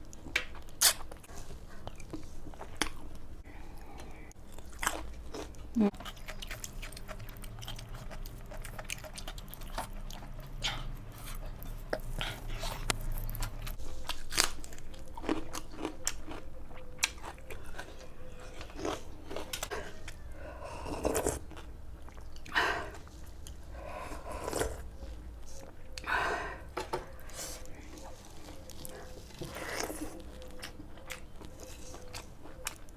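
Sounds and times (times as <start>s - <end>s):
crunchy food being chewed: 0.0s - 26.2s, 27.0s - 32.9s.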